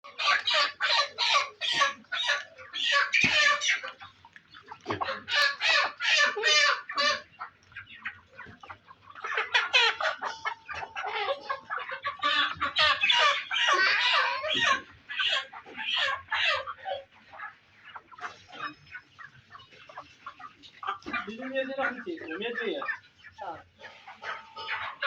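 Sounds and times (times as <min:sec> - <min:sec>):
chickens clucking and squawking: 0:00.0 - 0:25.0.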